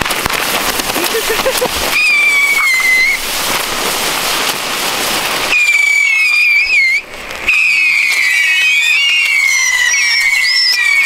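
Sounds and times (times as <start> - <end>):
hissing rush of sparks: 0.0 - 11.0
firework whistles sliding down: 0.9 - 11.0.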